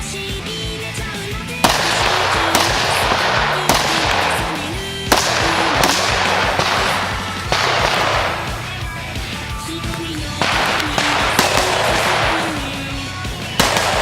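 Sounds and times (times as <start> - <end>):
background music: 0.0 - 14.0
rifle shots: 1.5 - 9.6, 10.2 - 14.0.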